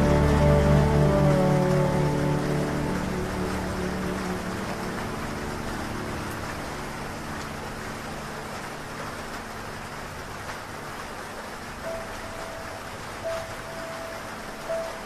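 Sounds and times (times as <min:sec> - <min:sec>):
heavy rain: 0:00.0 - 0:15.0
slowed piano and strings: 0:00.0 - 0:15.0.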